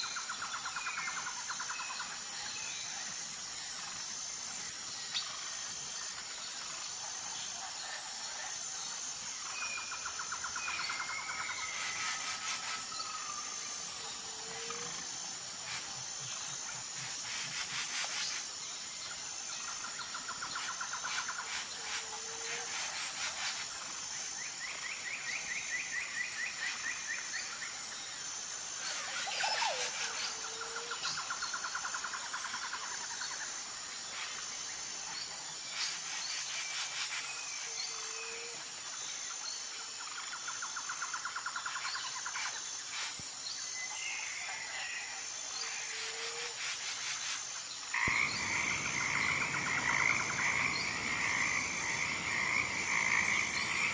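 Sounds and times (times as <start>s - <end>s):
high-pitched insect drone: 0.0s - 53.9s.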